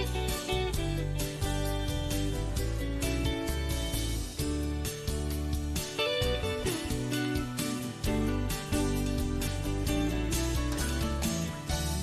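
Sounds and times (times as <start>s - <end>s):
bass notes: 0.0s - 12.0s
guitar instrumental music: 0.0s - 12.0s.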